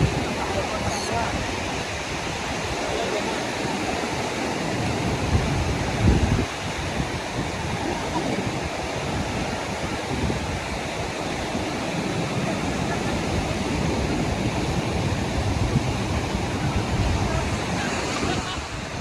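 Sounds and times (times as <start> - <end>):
surf washing up a beach: 0.0 - 19.0.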